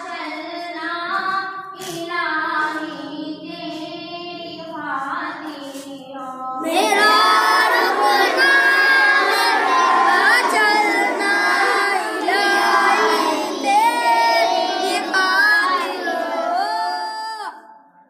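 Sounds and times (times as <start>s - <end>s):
children singing devotional song: 0.0s - 17.7s.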